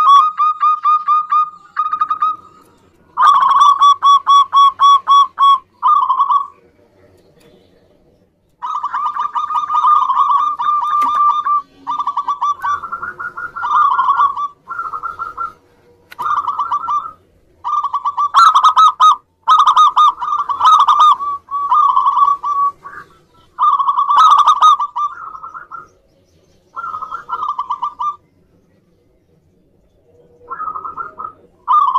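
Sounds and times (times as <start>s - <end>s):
dove cooing: 0.0s - 31.9s.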